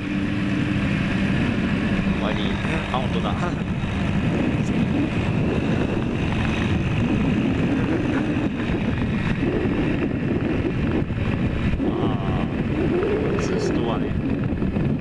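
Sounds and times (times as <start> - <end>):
two-stroke motorcycle engine: 0.0 - 15.0
wind rush on microphone: 0.0 - 15.0.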